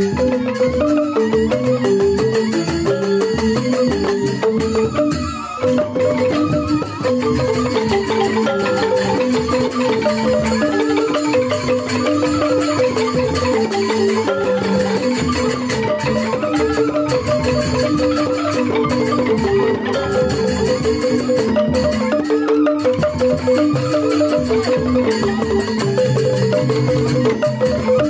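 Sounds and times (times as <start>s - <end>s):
bamboo flute: 0.0s - 28.0s
bamboo xylophones: 0.0s - 28.0s
hand drum: 0.0s - 28.0s.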